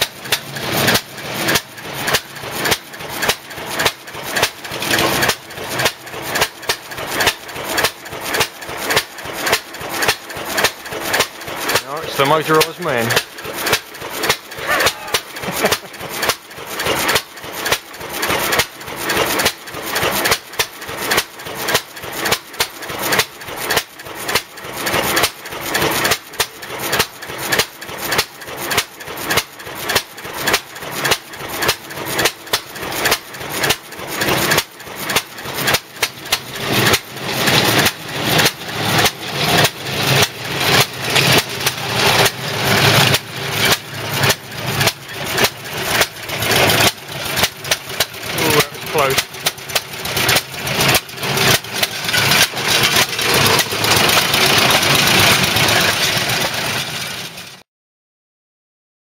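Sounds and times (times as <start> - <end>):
motor mower engine running: 0.0 - 57.6.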